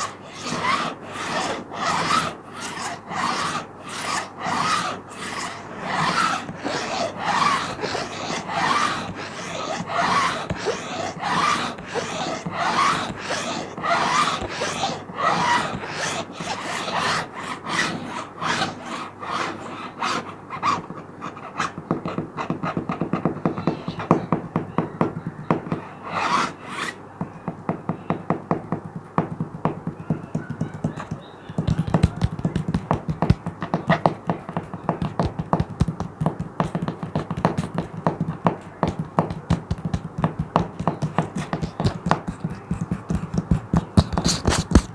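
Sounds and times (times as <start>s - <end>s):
plastic sheet scratching: 0.0s - 21.8s, 29.9s - 44.9s.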